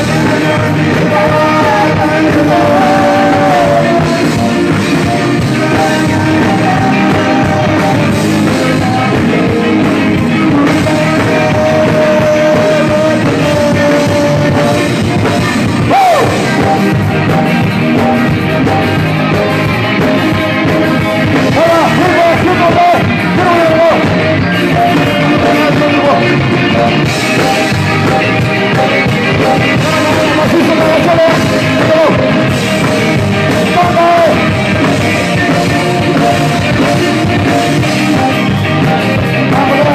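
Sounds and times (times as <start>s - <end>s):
man singing into microphone: 0.0s - 16.8s, 21.4s - 27.7s, 28.8s - 39.9s
drums: 0.0s - 39.9s
electric guitar: 0.0s - 39.9s.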